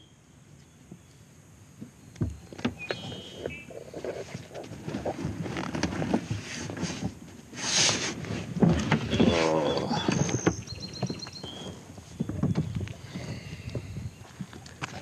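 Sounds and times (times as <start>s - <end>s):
kayak knocking and scraping: 1.8s - 15.0s.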